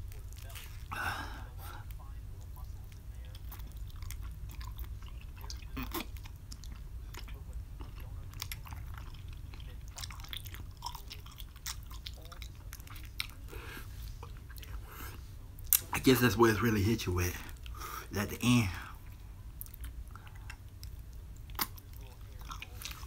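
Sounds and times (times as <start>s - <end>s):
person chewing noodles: 0.0s - 15.9s, 17.5s - 23.0s
steady low hum: 0.0s - 23.0s.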